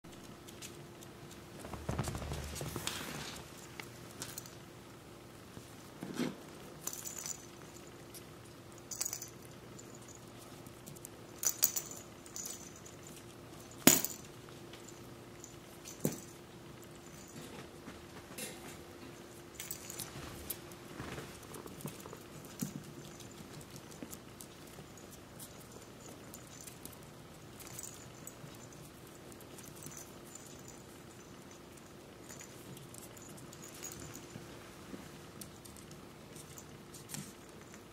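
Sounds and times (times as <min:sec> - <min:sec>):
faint steady hum: 0:00.0 - 0:37.9
puppy claws clicking on floor: 0:00.1 - 0:04.6, 0:06.6 - 0:18.4, 0:19.0 - 0:37.9.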